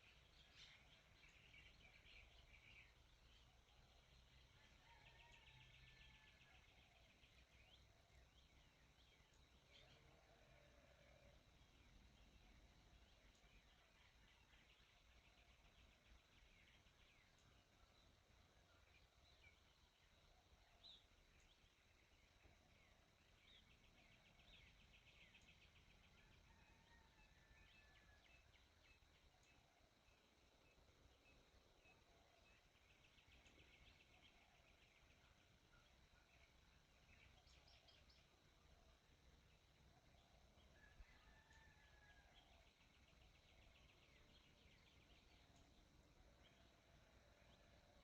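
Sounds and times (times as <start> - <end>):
faint birdsong: 0.0 - 48.0.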